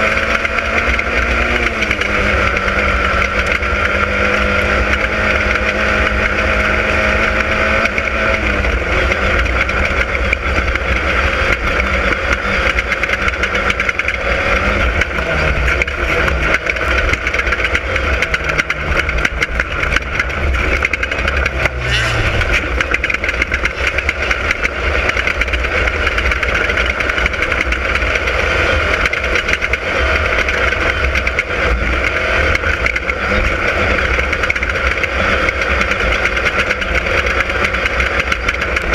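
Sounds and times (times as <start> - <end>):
race car engine revving: 0.0 - 38.9
rattles and knocks from car: 0.0 - 38.9.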